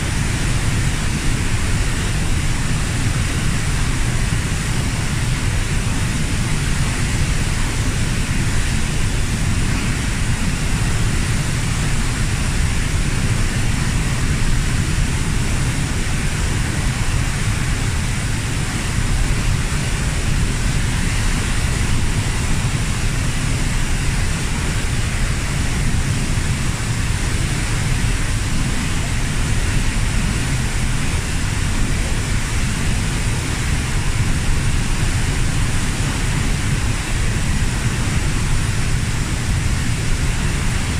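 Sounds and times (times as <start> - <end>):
waterfall rushing roar: 0.0 - 40.9.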